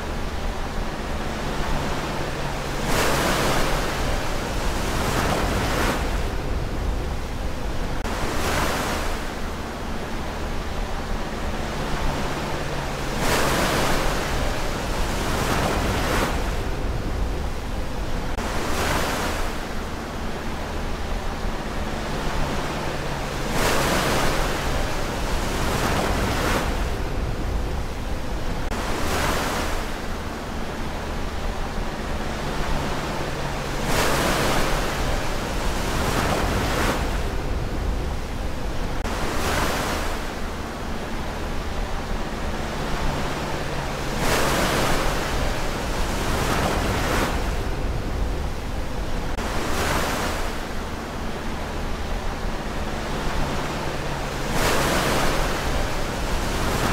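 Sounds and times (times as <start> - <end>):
ocean waves crashing: 0.0 - 56.9.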